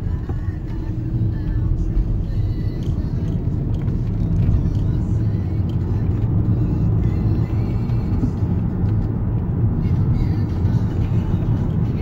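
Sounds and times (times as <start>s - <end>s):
car engine rumble: 0.0s - 12.0s
road rumble: 0.0s - 12.0s.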